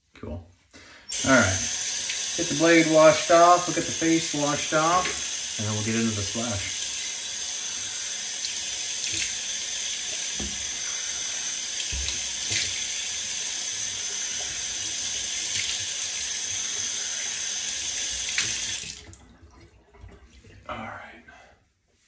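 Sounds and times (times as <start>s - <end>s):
tap water running: 1.1s - 20.7s
faint rinsing splashes: 1.2s - 17.3s, 17.9s - 20.7s.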